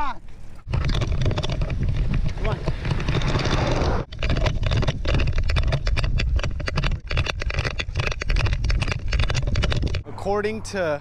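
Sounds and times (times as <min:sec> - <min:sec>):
wind buffeting: 0:00.5 - 0:11.0.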